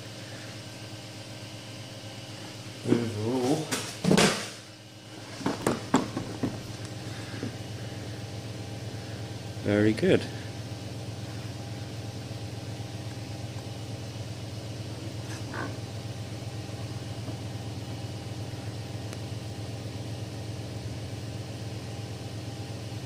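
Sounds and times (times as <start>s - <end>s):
cooling fans humming: 0.0s - 23.0s.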